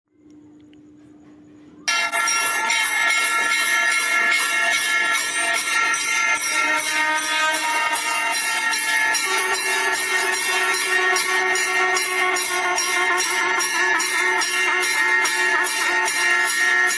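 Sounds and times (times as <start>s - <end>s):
temple bells rung rapidly: 1.9s - 16.9s.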